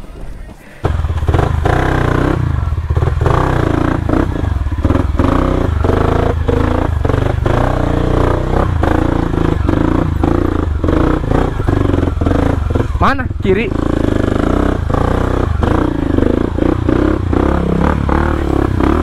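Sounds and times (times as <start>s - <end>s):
motorcycle engine running: 0.8s - 19.0s.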